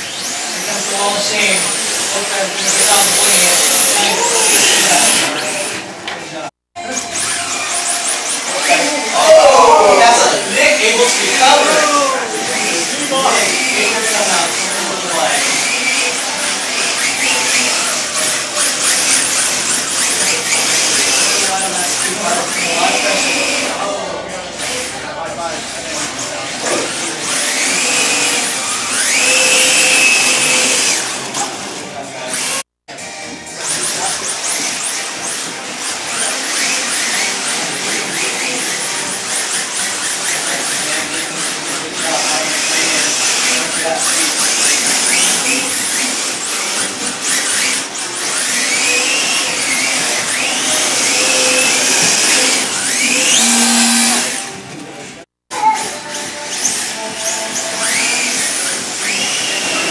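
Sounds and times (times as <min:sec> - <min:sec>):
electric motors whining: 0:00.0 - 0:06.0, 0:06.8 - 0:54.7, 0:56.0 - 0:59.9.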